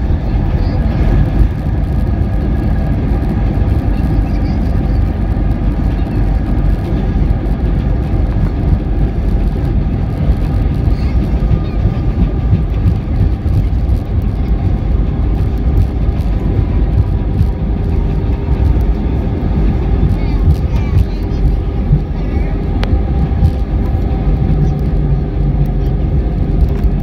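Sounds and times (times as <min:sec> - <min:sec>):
jet engines idling: 0:00.0 - 0:27.0
low rumble of aircraft wheels: 0:00.0 - 0:27.0.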